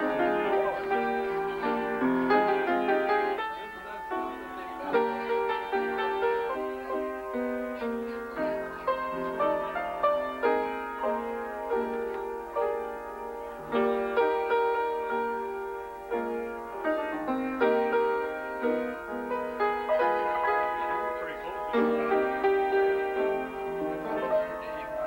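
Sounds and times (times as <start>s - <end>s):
piano playing: 0.0s - 25.0s.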